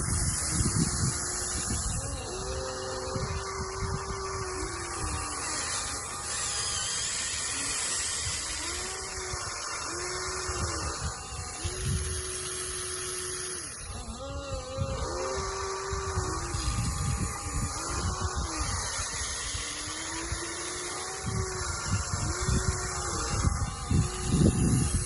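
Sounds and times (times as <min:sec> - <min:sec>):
electric gear motors whining: 0:00.0 - 0:25.0.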